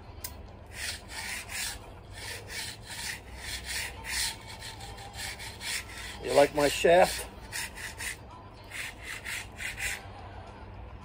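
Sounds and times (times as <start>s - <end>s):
copper tubing rasping through straightener: 0.7s - 10.0s.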